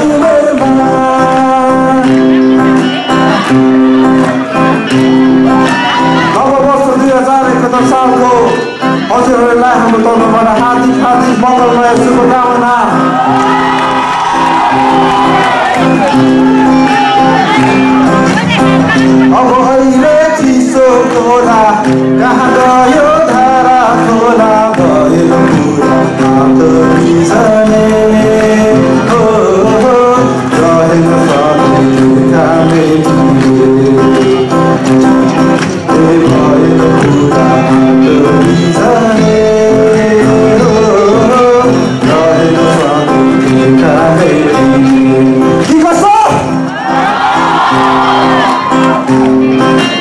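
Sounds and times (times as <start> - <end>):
man singing: 0.0 - 13.6, 15.3 - 46.8
acoustic guitar: 0.0 - 50.0.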